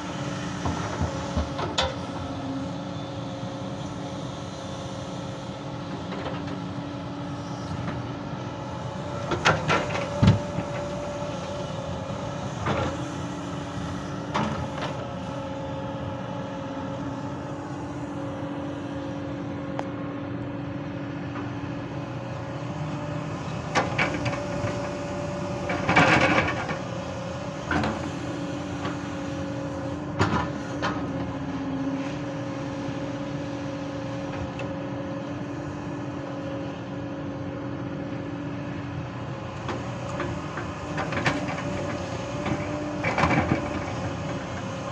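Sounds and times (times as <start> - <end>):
excavator diesel engine whining: 0.0 - 44.9.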